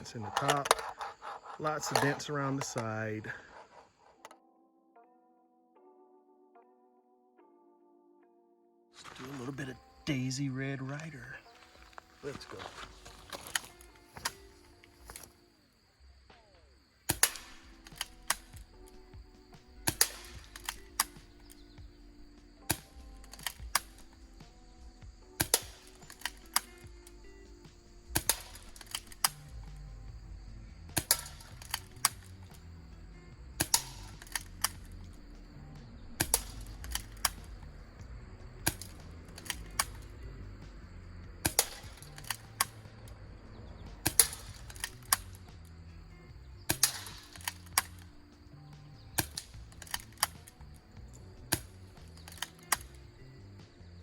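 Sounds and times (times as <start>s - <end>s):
sharp clicks: 0.0s - 4.4s, 12.3s - 15.4s, 17.0s - 43.3s, 43.9s - 53.8s.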